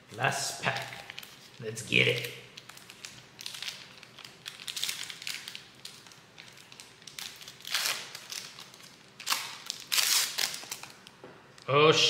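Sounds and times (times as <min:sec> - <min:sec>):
foil wrapper crinkling: 0:00.6 - 0:11.2.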